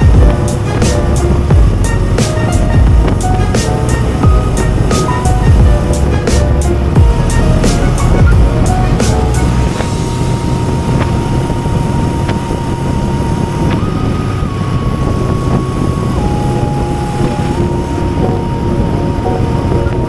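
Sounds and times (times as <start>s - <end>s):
motorcycle engine rumble: 0.0s - 20.0s
road and wind noise: 0.0s - 20.0s.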